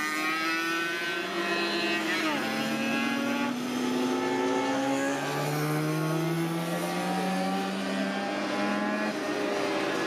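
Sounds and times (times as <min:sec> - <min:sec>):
racing motorcycle engines accelerating: 0:00.0 - 0:10.0.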